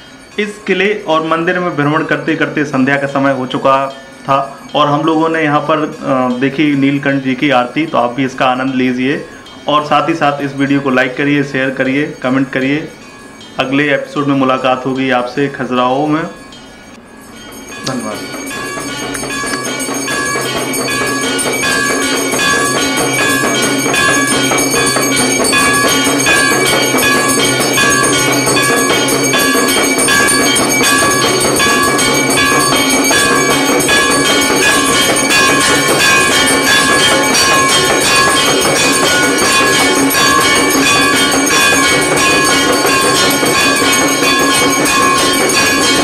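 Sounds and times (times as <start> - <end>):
brass bells clanging: 0.0 - 46.0.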